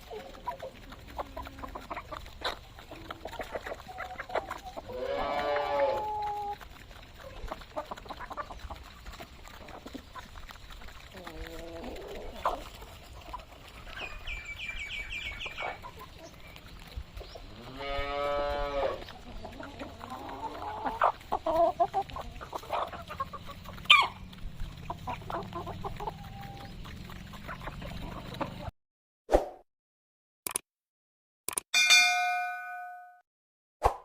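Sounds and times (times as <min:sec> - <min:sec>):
chickens clucking: 0:00.0 - 0:28.7.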